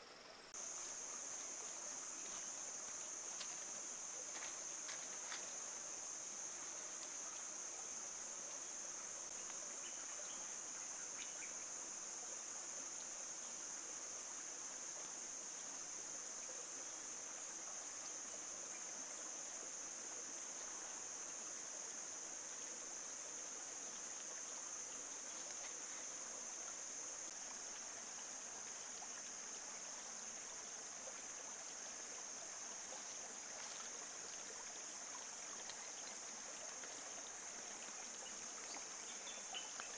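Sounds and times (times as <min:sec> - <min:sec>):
faint background hiss: 0:00.0 - 0:39.9
insects droning: 0:00.0 - 0:39.9.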